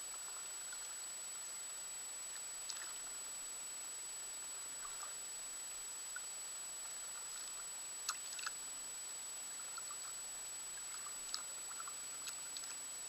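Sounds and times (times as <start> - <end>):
steady hiss with high whine: 0.0 - 13.0.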